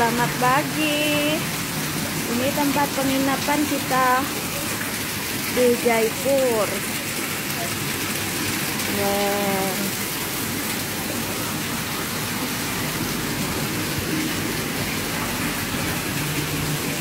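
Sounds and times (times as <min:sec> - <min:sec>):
falling water hissing: 0:00.0 - 0:17.0.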